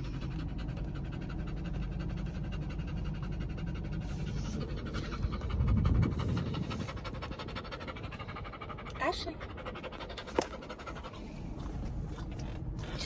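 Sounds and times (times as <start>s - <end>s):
dog panting: 0.0s - 13.0s
low rumble: 0.0s - 13.0s.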